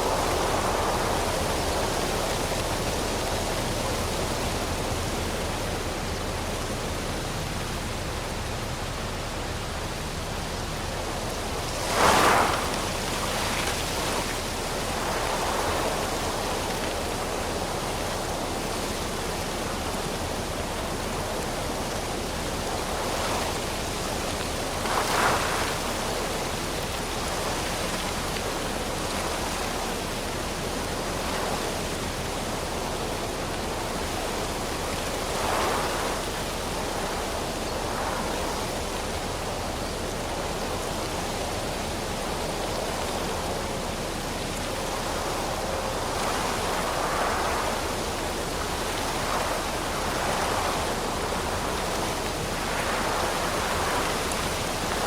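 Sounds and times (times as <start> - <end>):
wind rushing through trees: 0.0 - 55.0.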